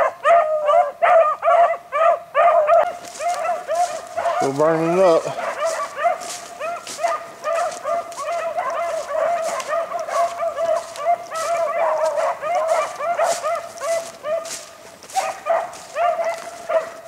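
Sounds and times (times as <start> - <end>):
hounds baying: 0.0 - 17.0.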